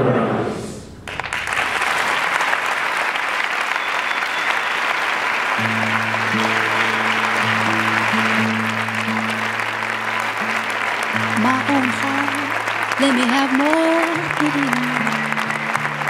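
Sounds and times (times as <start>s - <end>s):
audience applauding: 1.0s - 16.0s.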